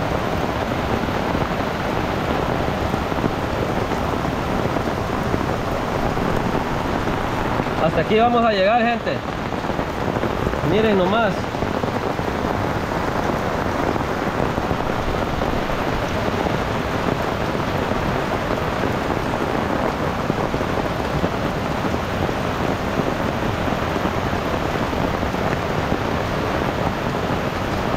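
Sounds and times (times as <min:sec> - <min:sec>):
heavy rain on umbrella: 0:00.0 - 0:27.9
river rushing over boulders: 0:00.0 - 0:27.9.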